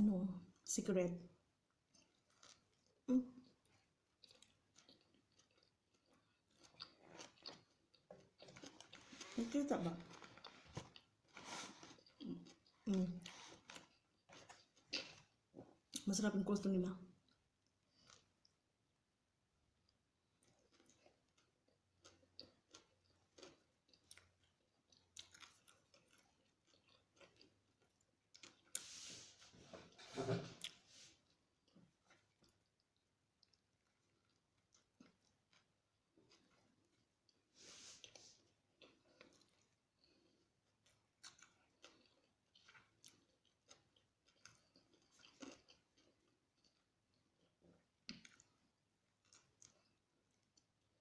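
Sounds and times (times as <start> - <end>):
faint wet chewing: 1.7 - 16.1, 17.2 - 18.6, 19.8 - 51.0
soft crunches of food: 1.8 - 16.0, 17.2 - 18.6, 19.9 - 50.9.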